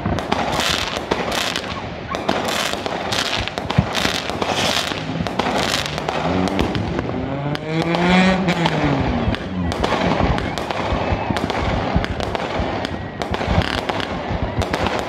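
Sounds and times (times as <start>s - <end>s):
fireworks bangs and pops: 0.0s - 15.0s
fireworks hissing and crackling: 0.0s - 15.0s.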